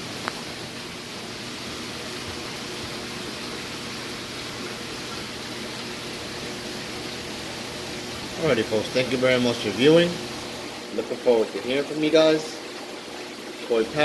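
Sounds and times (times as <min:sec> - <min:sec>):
aquarium water circulation hiss: 0:00.0 - 0:14.0.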